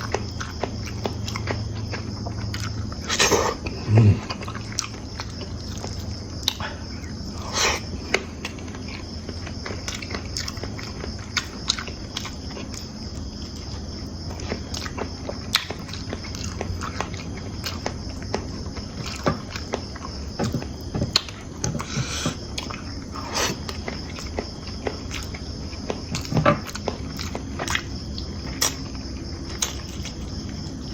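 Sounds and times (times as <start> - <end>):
person chewing and biting: 0.0 - 28.9, 29.5 - 30.8.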